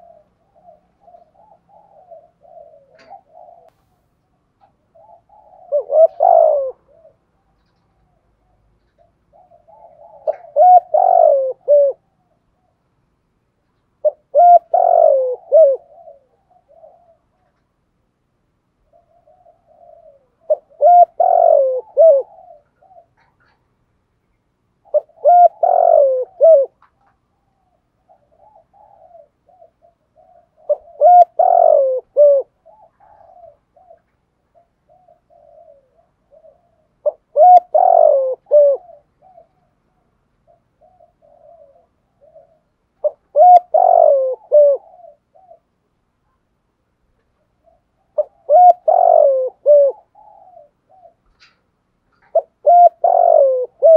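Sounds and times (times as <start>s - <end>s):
dove cooing: 0.0s - 13.2s, 13.8s - 23.9s, 24.7s - 46.5s, 47.2s - 53.9s.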